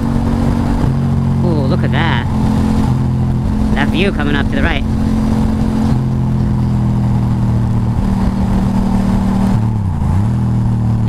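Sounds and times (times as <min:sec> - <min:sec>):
motorcycle engine cruising: 0:00.0 - 0:11.0
road noise: 0:00.0 - 0:11.0
wind noise: 0:00.0 - 0:11.0.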